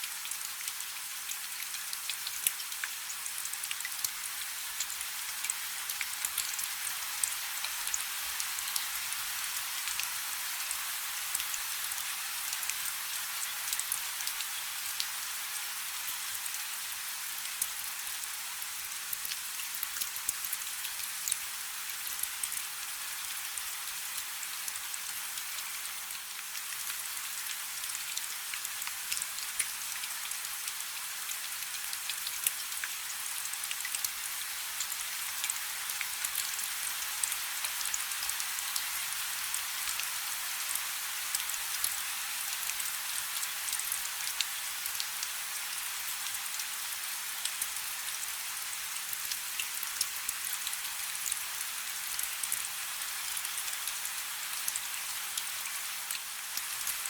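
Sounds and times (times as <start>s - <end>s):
rain falling on water: 0.0s - 57.0s.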